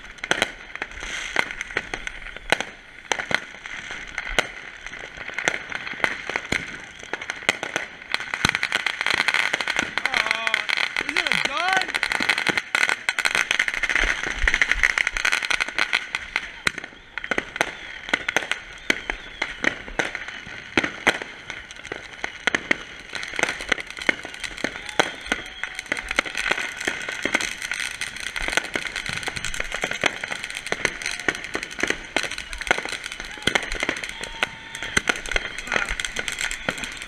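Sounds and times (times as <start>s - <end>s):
fireworks crackling and banging: 0.0s - 37.0s
fountain fireworks hissing: 0.0s - 37.0s.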